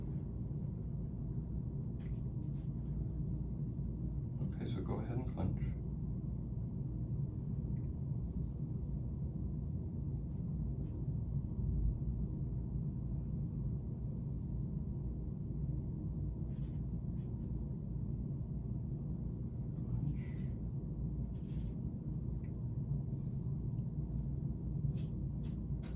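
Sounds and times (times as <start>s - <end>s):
low background rumble: 0.0s - 25.9s.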